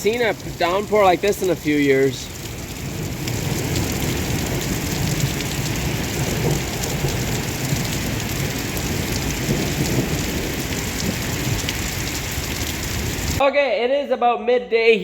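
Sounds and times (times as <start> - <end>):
heavy rain rushing: 0.0 - 13.4
raindrops ticking: 0.0 - 13.4.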